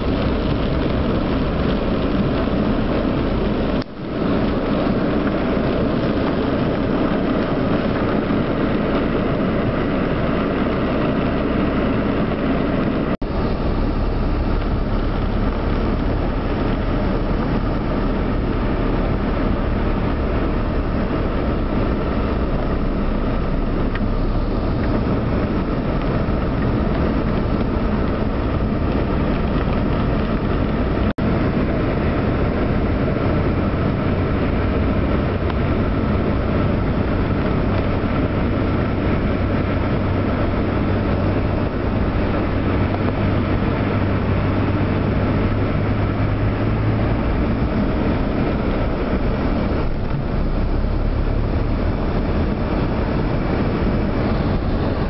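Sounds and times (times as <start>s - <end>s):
heavy rain on car: 0.0s - 55.0s
low engine hum: 0.0s - 55.0s
tyres running through water: 0.0s - 55.0s.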